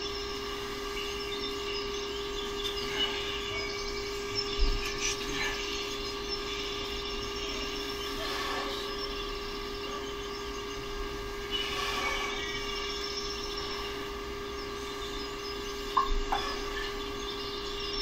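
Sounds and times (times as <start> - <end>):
room hum with constant tone: 0.0 - 18.0.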